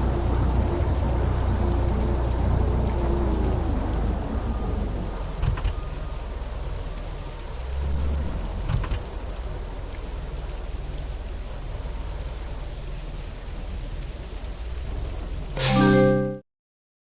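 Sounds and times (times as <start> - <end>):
rain falling on a car: 0.0 - 15.6.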